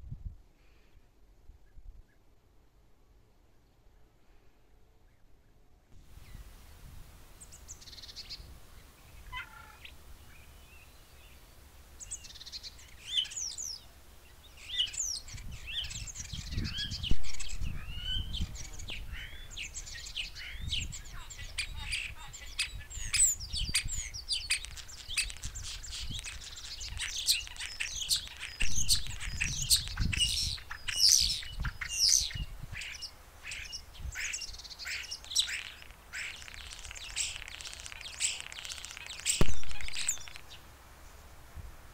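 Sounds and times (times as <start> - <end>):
small birds chirping and singing: 6.0 - 41.2.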